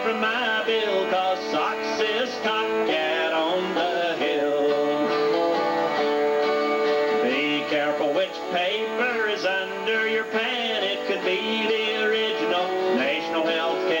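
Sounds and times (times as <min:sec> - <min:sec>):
electric guitar melody: 0:00.0 - 0:14.0
strummed acoustic guitars: 0:00.0 - 0:14.0.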